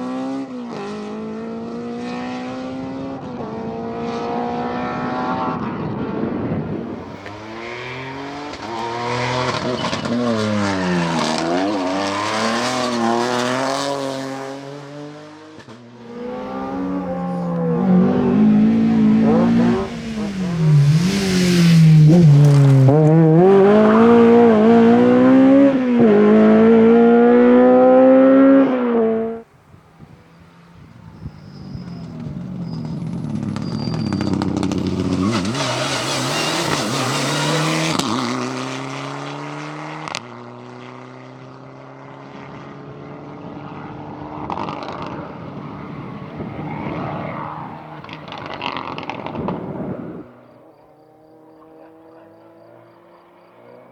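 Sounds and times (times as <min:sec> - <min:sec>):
rally car engine revving: 0:00.0 - 0:29.5, 0:30.6 - 0:53.9.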